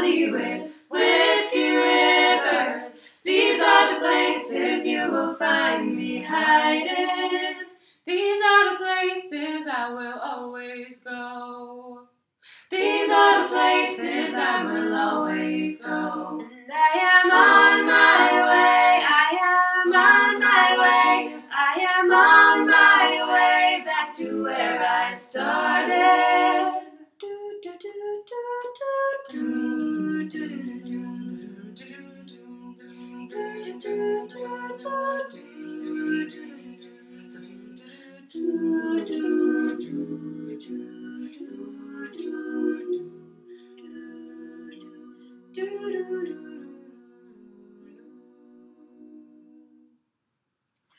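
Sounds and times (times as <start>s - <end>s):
women singing a cappella harmony: 0.0s - 49.8s.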